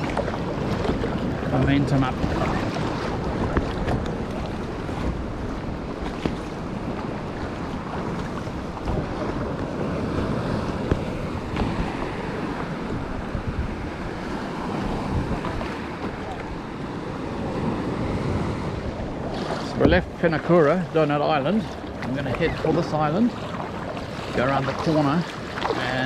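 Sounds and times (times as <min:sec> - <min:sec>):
ocean swell washing: 0:00.0 - 0:26.0
wind buffeting microphone: 0:00.0 - 0:26.0.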